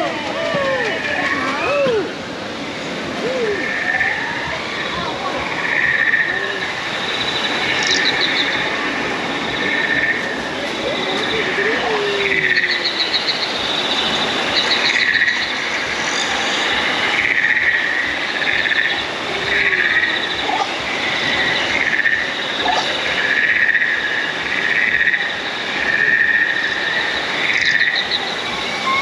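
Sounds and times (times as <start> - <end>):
insect-like chirping calls: 3.2 - 29.0.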